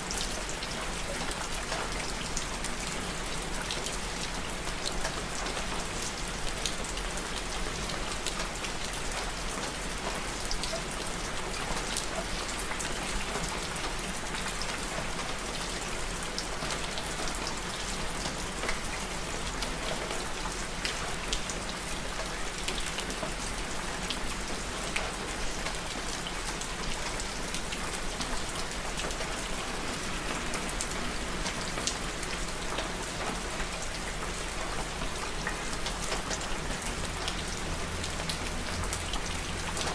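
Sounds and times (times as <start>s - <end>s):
steady rain hiss: 0.0s - 39.9s
rain drops ticking: 0.1s - 39.9s.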